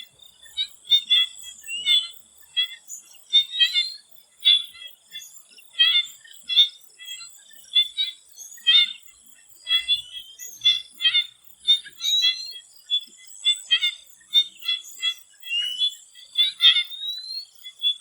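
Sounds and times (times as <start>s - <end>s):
frogs calling in chorus: 0.0s - 18.0s.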